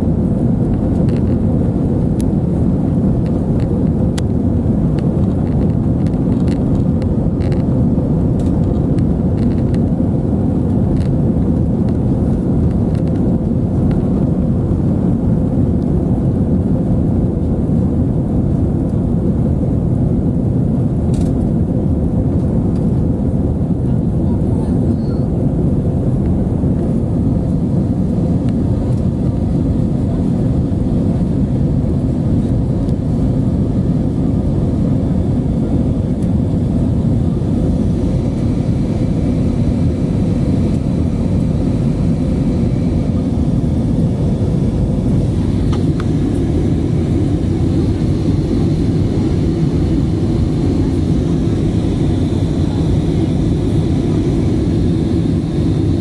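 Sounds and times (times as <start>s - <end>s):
jet engine rumble and rushing air: 0.0s - 56.0s.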